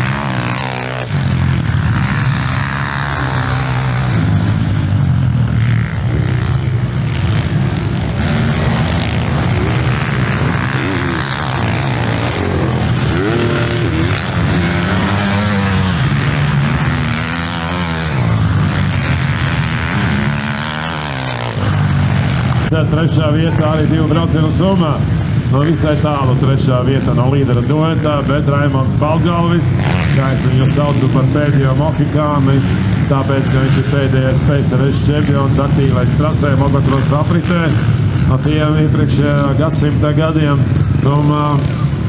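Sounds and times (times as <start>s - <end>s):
motocross engines revving: 0.0s - 42.0s.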